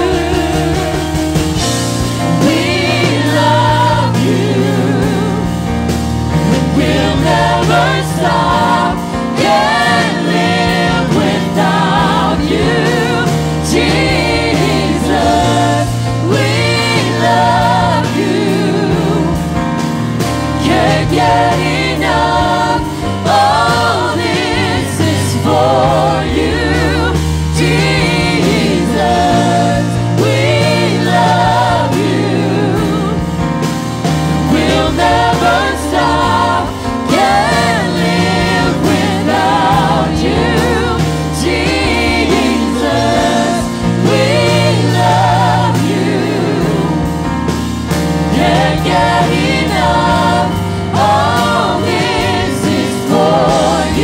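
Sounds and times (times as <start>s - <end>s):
band playing: 0.0s - 54.0s
singers singing worship song: 0.0s - 54.0s.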